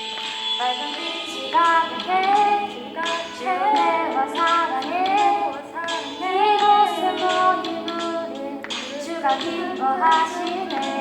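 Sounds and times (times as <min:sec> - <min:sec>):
instrumental accompaniment: 0:00.0 - 0:11.0
children singing praise song: 0:00.6 - 0:11.0.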